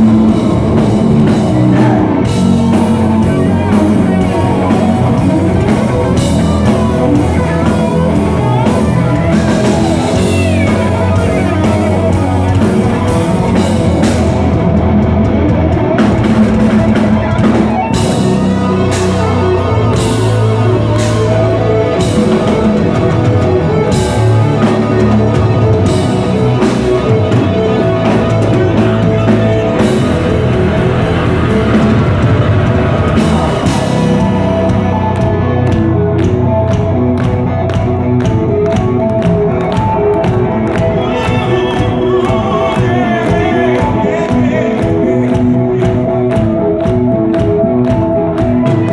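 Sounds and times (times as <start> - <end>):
bass: 0.0 - 48.9
distorted electric guitar: 0.0 - 48.9
drum kit: 0.0 - 48.9
keyboards: 0.0 - 48.9.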